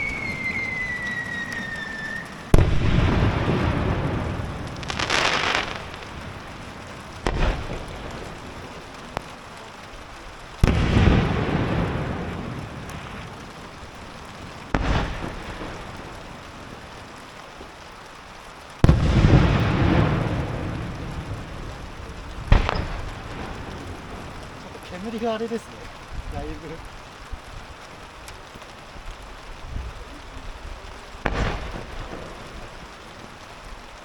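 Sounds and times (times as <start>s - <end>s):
firework booms: 0.0s - 17.8s, 18.8s - 34.0s
crackling firework sparks: 0.0s - 34.0s.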